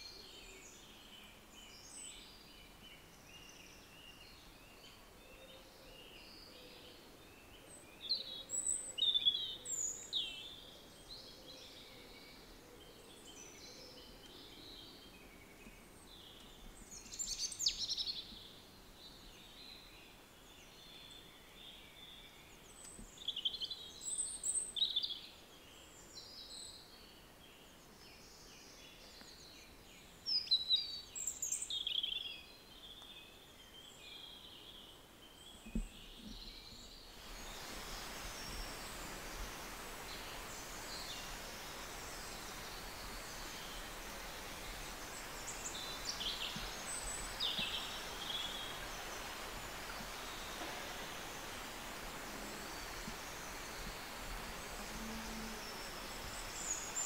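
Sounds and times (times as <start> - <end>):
faint steady hiss: 0.0 - 57.0
small birds chirping: 0.0 - 57.0.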